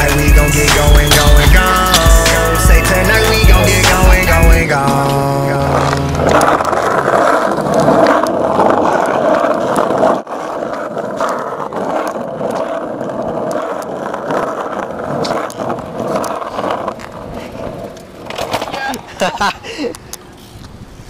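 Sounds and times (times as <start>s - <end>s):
bike grinding along concrete ledge: 0.0s - 21.0s
tyres rolling on asphalt: 0.0s - 21.0s.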